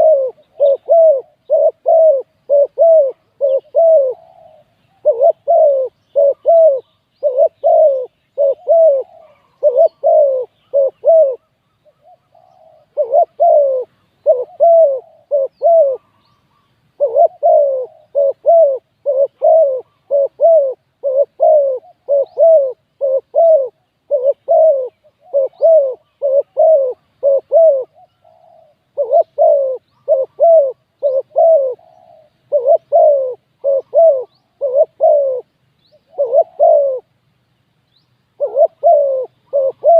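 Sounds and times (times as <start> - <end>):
dove cooing: 0.0 - 37.2, 38.3 - 39.9.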